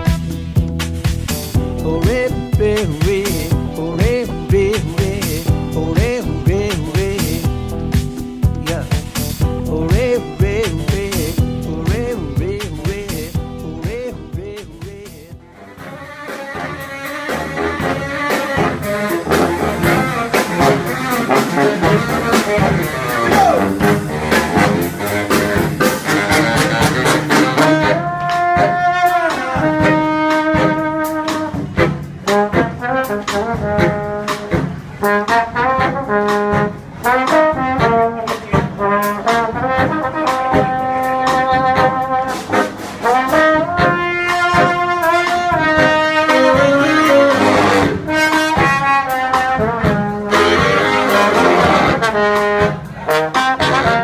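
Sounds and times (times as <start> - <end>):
jazzy brass music: 0.0 - 54.0.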